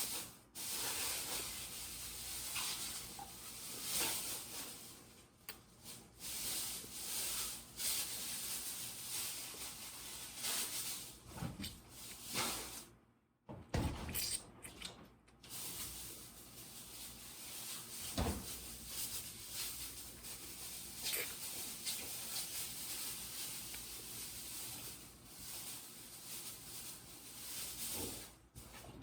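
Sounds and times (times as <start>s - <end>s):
soft rustling and handling: 0.0s - 13.0s, 14.8s - 29.0s.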